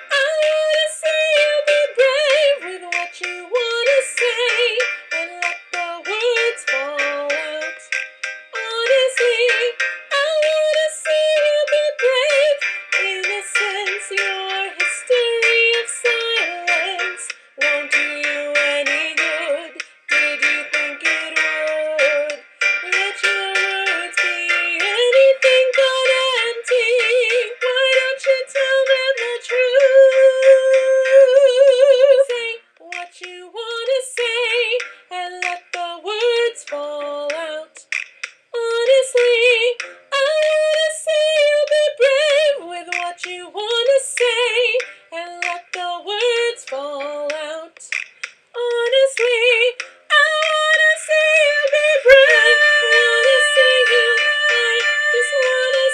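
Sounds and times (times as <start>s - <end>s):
woman singing with vibrato: 0.0s - 7.9s, 8.6s - 37.8s, 38.6s - 47.9s, 48.6s - 55.9s.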